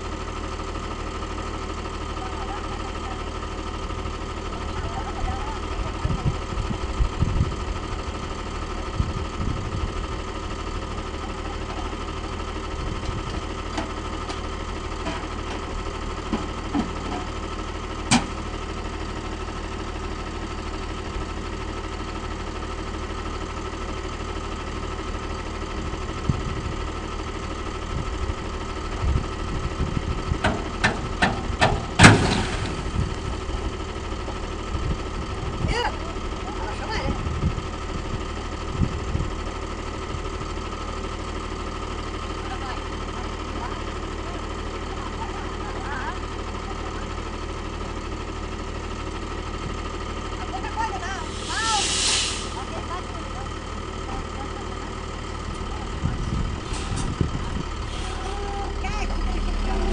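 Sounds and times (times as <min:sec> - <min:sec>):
dump truck engine idling: 0:00.0 - 0:59.9.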